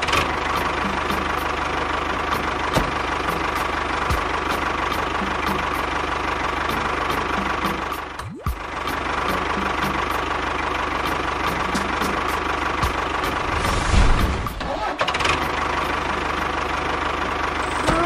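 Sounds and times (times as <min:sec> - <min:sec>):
tractor engine knocking: 0:00.0 - 0:13.5, 0:14.2 - 0:18.0.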